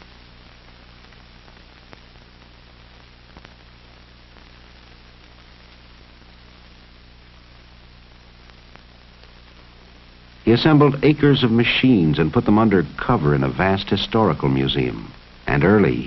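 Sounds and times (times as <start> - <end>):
mains hum: 0.0 - 16.0
tape hiss: 0.0 - 16.0.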